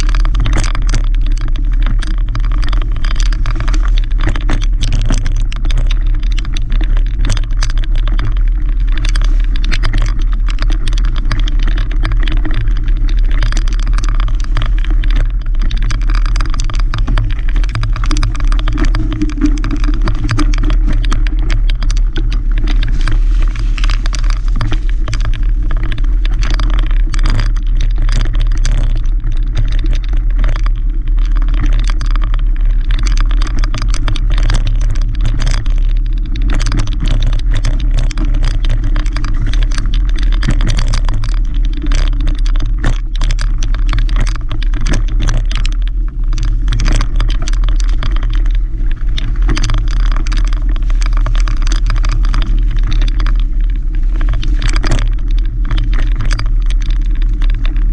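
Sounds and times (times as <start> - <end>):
bike rattling and clatter: 0.0 - 57.9
mountain bike rumble: 0.0 - 57.9.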